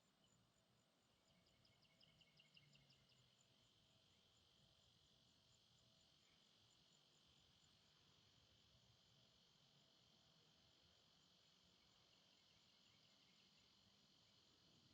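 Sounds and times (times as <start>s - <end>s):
insect chorus drone: 0.0s - 14.9s.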